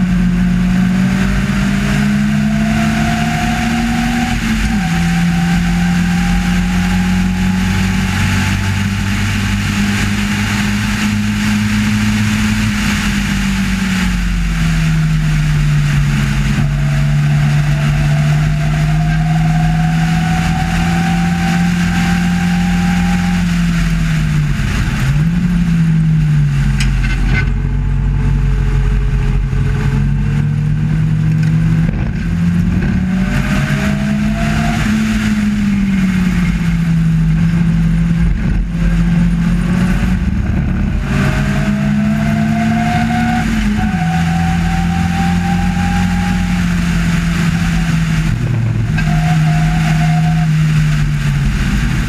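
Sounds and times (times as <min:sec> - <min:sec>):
race car engine accelerating: 0:00.0 - 0:52.0
wind and road noise: 0:00.0 - 0:52.0.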